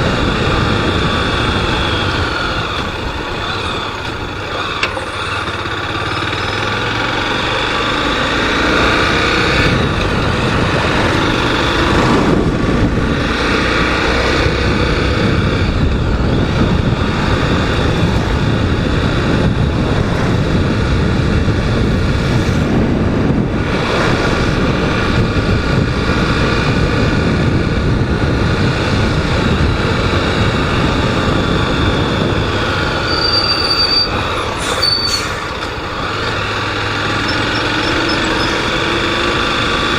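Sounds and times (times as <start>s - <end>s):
motorcycle engine running: 0.0s - 34.6s, 35.4s - 39.9s
road and wind noise: 0.0s - 39.9s.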